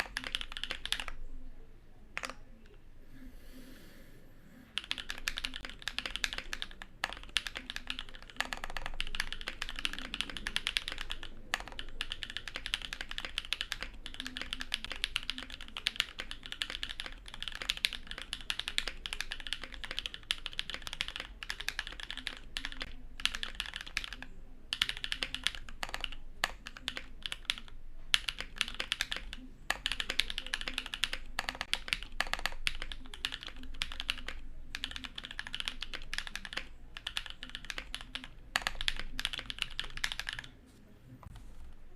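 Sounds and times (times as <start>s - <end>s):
typing on mechanical keyboard: 0.0s - 1.2s, 2.2s - 2.4s, 4.8s - 40.5s.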